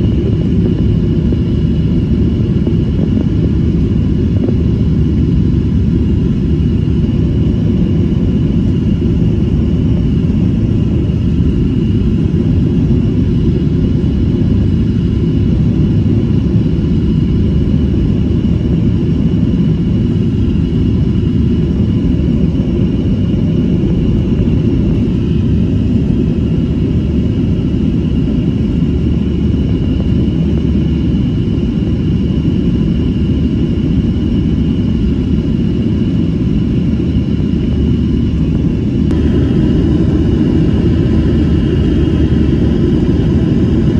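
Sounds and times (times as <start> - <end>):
jet cabin engine rumble: 0.0 - 43.9.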